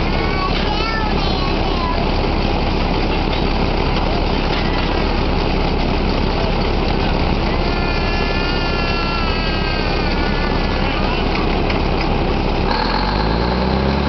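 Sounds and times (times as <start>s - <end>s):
drilling rig machinery running: 0.0s - 14.0s
high machine whine: 0.0s - 14.0s
low engine note: 0.0s - 14.0s.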